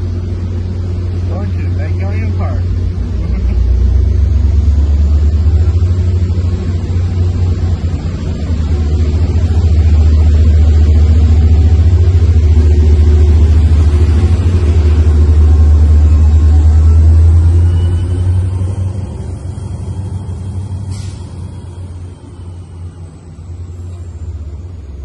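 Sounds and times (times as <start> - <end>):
diesel locomotive rumble: 0.0 - 25.0.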